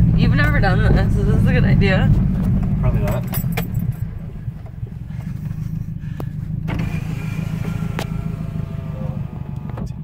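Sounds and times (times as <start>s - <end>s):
car engine rumbling inside cabin: 0.0s - 10.0s.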